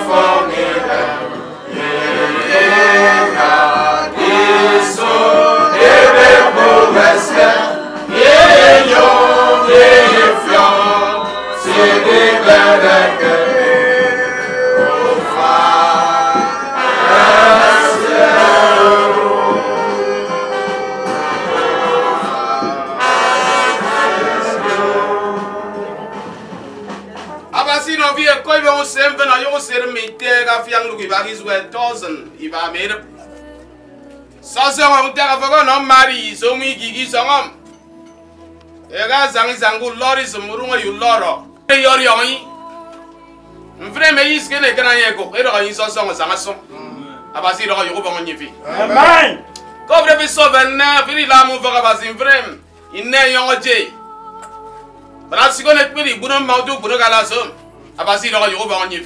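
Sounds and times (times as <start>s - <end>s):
group singing a hymn: 0.0s - 59.0s.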